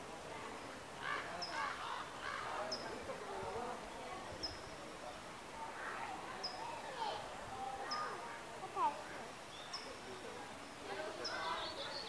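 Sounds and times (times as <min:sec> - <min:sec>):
faint chatter of people: 0:00.0 - 0:12.0.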